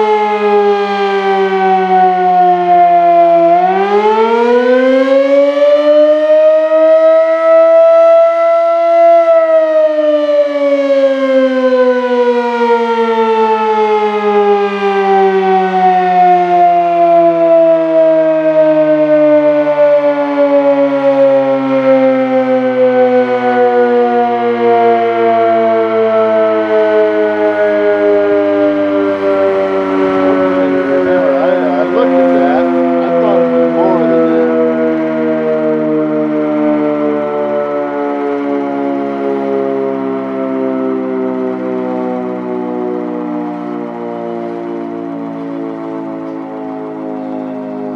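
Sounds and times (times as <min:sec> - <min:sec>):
fire siren wailing: 0:00.0 - 0:47.9.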